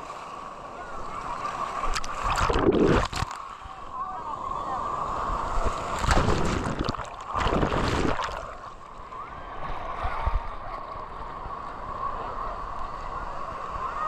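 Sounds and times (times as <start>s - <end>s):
sea surf: 0.0s - 14.0s
wind: 0.0s - 14.0s.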